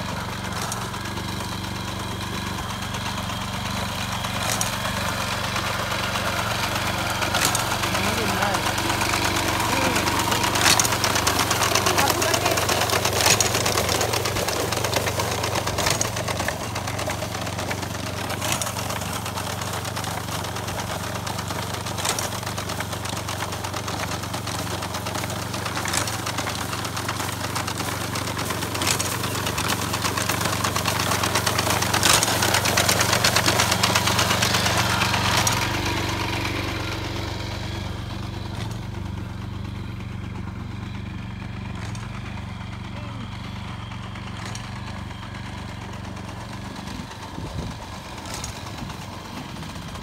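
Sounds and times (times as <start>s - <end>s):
small engine humming: 0.0s - 50.0s.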